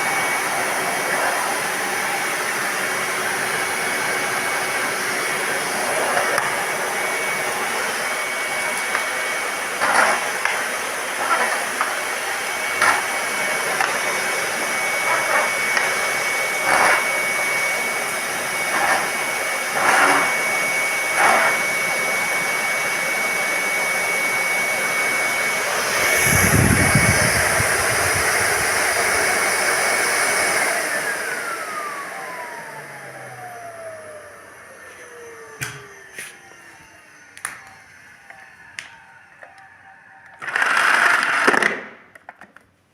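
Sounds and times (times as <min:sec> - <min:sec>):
vacuum cleaner whining: 0:00.0 - 0:42.5.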